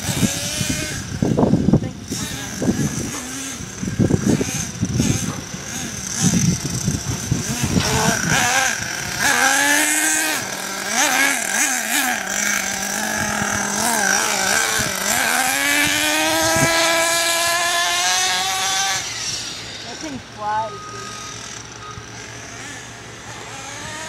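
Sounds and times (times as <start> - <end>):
toy car motor whining: 0.0 - 24.0.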